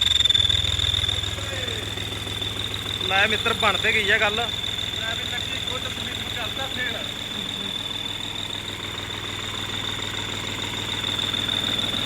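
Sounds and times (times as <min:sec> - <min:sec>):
high-pitched exhaust whistle: 0:00.0 - 0:12.0
tractor diesel engine idling: 0:00.0 - 0:12.0.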